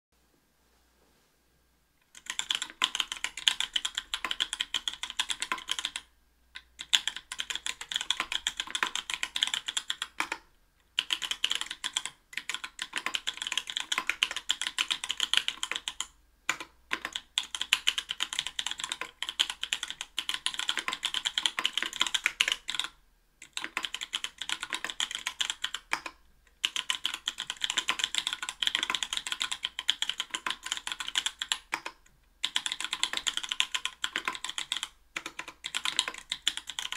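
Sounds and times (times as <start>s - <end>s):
mechanical keyboard typing: 2.1s - 36.9s.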